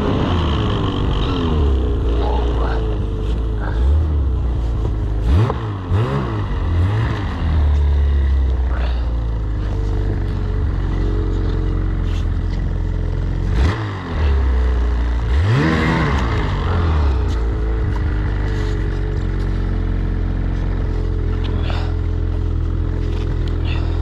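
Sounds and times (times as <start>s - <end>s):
snowmobile engine idling and revving: 0.0s - 24.0s.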